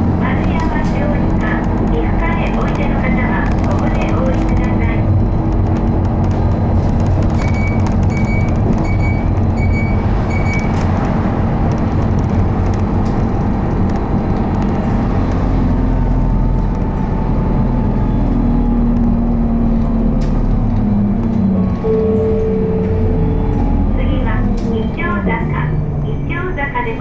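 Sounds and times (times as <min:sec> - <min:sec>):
bus engine and road noise: 0:00.0 - 0:27.0
low whine: 0:00.3 - 0:25.6.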